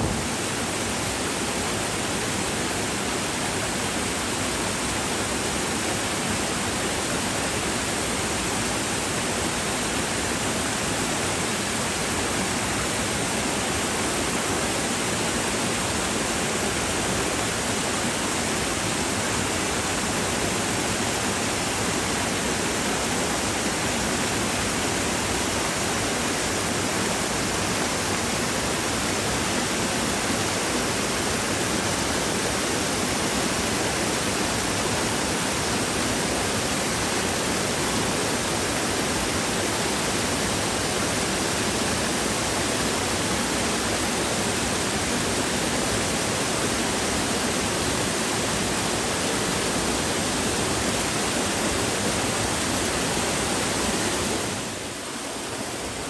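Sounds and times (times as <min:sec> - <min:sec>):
stream rushing over boulders: 0:00.0 - 0:56.0.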